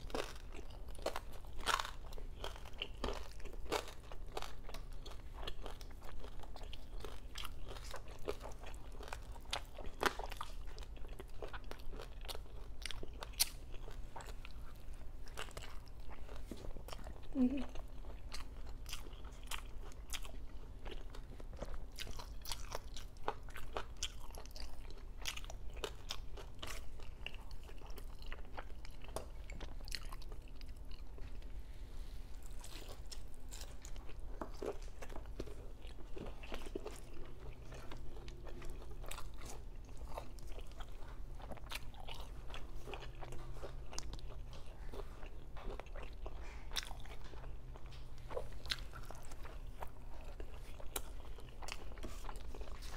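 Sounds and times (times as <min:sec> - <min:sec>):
chewing crispy food: 0:00.0 - 0:52.9.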